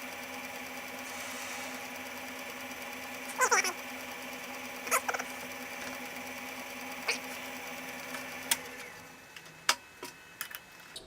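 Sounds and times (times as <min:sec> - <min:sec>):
lathe running with steady hum: 0:00.0 - 0:10.9.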